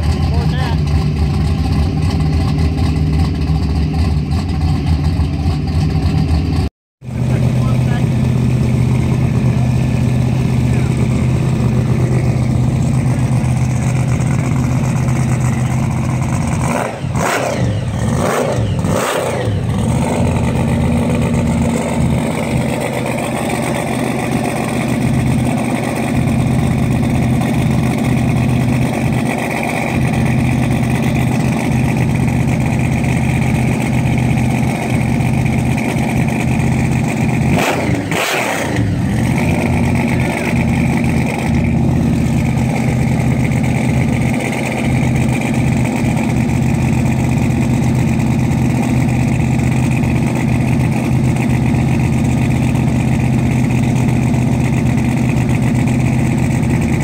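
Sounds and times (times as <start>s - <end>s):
supercharged engine idling and revving: 0.0s - 57.0s.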